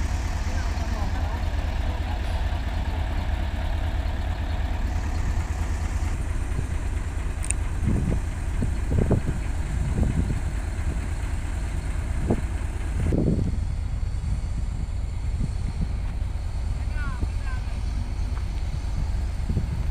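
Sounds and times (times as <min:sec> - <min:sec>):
diesel engine rumbling: 0:00.0 - 0:19.9.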